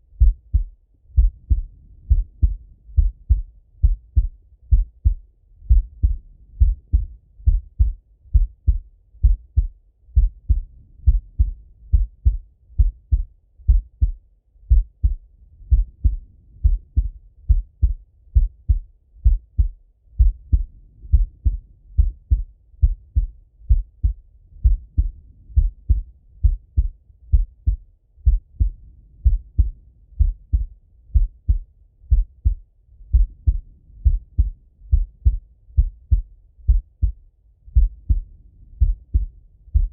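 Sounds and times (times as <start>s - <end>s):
heartbeat through stethoscope: 0.1s - 39.9s.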